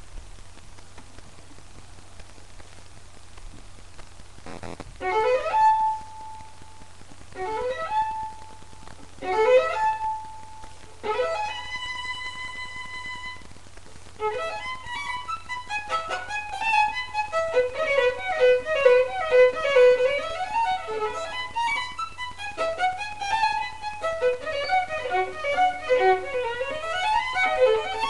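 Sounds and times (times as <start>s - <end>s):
low steady hum: 0.0s - 28.0s
solo violin: 5.0s - 28.0s.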